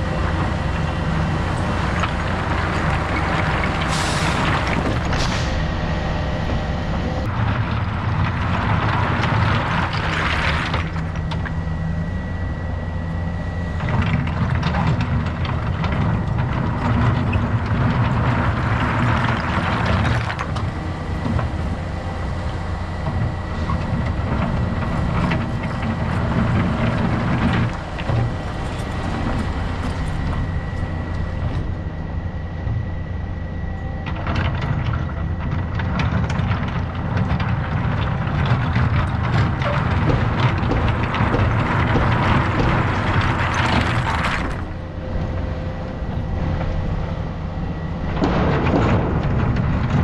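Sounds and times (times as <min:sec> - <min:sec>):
excavator diesel engine running: 0:00.0 - 0:50.0
hydraulics working: 0:00.0 - 0:50.0.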